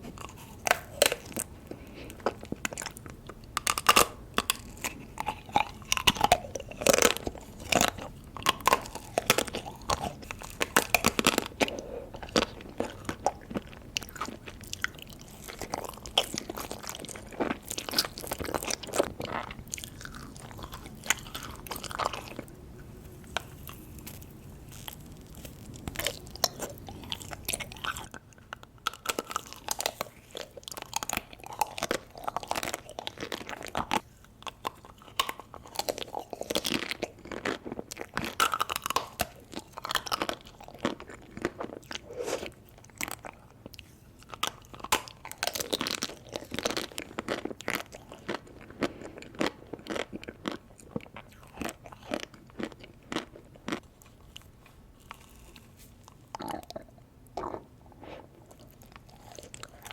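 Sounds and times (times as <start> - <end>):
crunching bites of ice cream: 0.0 - 22.6, 28.8 - 57.8
chewing and wet mouth sounds: 0.0 - 59.9.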